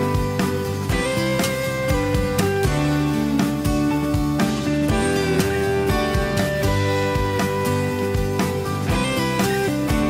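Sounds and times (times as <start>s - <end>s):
instrumental guitar music: 0.0s - 10.0s.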